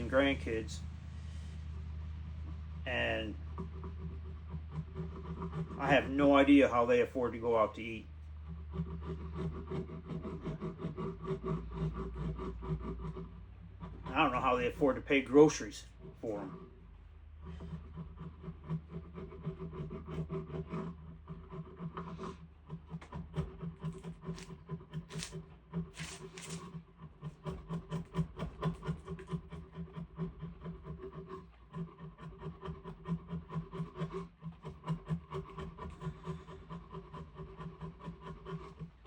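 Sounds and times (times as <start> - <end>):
hand tool scraping wood: 0.0 - 39.0
steady low hum: 0.0 - 39.0.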